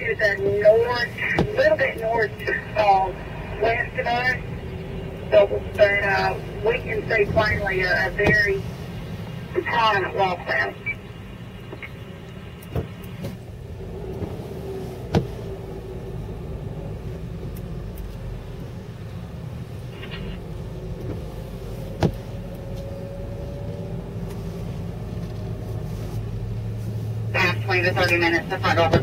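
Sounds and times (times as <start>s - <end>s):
car driving on wet road: 0.0s - 29.0s.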